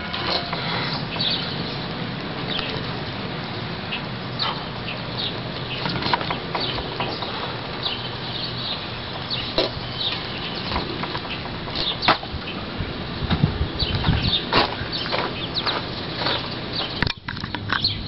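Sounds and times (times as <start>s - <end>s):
small birds chirping: 0.3s - 18.0s.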